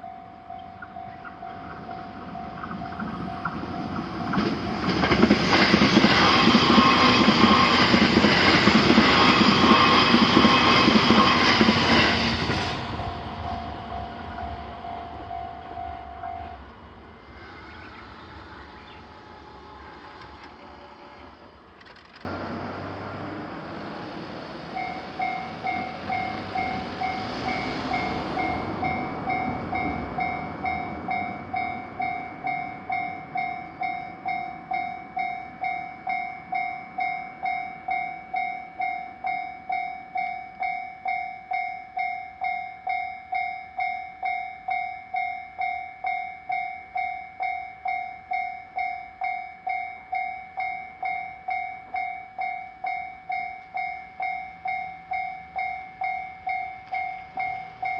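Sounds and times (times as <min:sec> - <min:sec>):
level crossing warning bell: 0:00.0 - 0:16.7, 0:24.6 - 0:57.9
train passing: 0:00.0 - 0:57.9.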